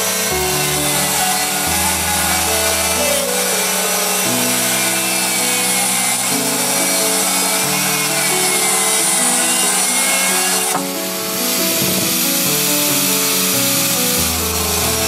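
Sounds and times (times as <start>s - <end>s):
background music: 0.0s - 15.0s
cut-off wheel grinding steel: 0.0s - 15.0s.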